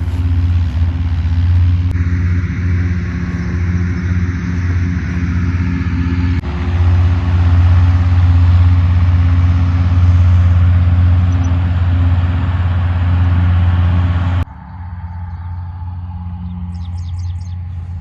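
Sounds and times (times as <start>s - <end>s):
engine running low hum: 0.0s - 18.0s.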